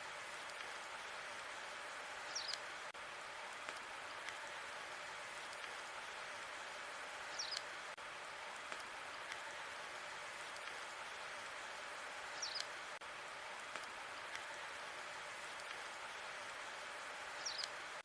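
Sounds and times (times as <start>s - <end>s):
wood fire hissing and crackling: 0.0s - 18.0s.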